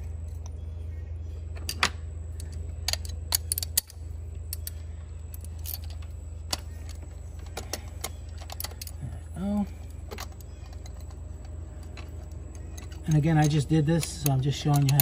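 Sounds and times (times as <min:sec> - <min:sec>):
steady low hum: 0:00.0 - 0:15.0
metal socket clicking and clinking: 0:01.6 - 0:09.0, 0:10.1 - 0:15.0.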